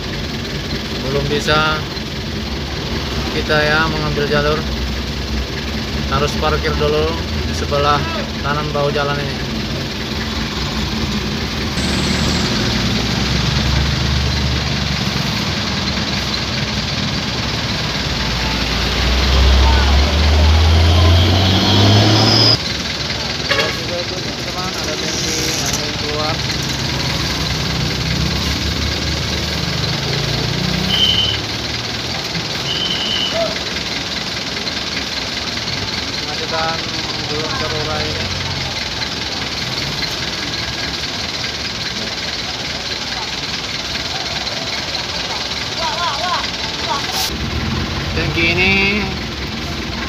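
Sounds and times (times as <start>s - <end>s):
heavy vehicle engines idling: 0.0s - 50.0s
traffic noise: 0.0s - 50.0s.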